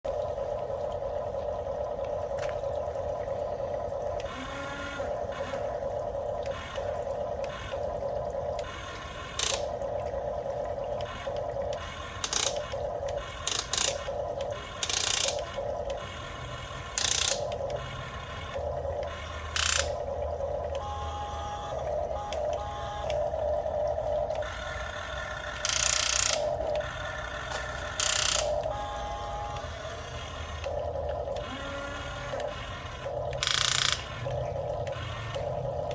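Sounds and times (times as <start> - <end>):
electric gear motors whining: 4.1 - 9.8, 10.4 - 35.9.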